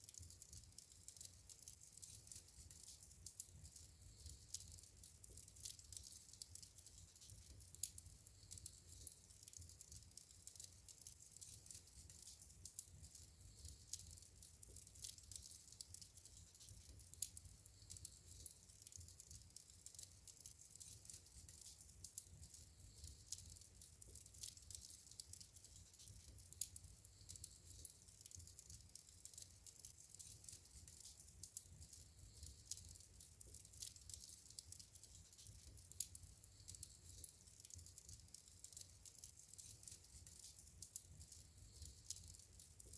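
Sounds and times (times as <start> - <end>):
faint wood fire crackling: 0.0 - 42.9.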